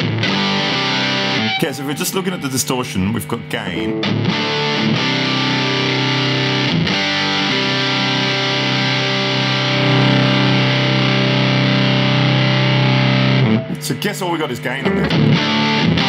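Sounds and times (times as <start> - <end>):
distorted electric guitar chord: 0.0 - 2.5, 3.7 - 13.7, 14.8 - 16.0.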